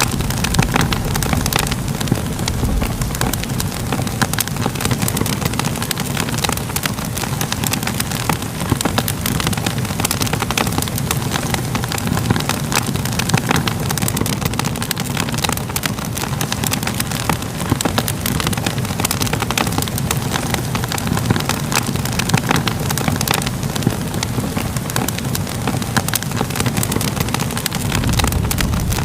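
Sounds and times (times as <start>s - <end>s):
fire burning rumble: 0.0s - 29.0s
fire popping and crackling: 0.0s - 29.0s.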